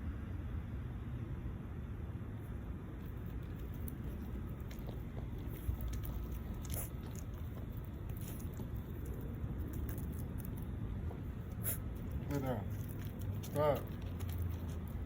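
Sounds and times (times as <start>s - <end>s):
steady low hum: 0.0s - 15.0s
puppy chewing and biting: 2.9s - 15.0s.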